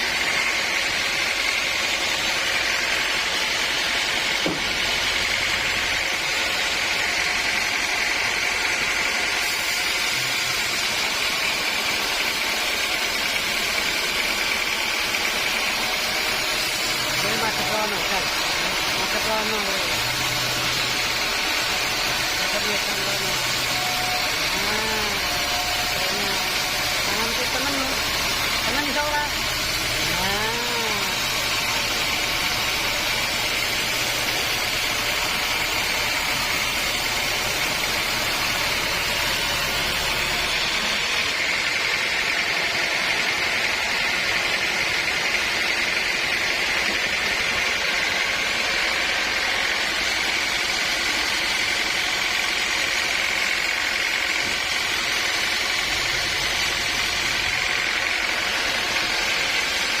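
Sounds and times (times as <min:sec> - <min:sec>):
sawmill machinery running: 0:00.0 - 1:00.0.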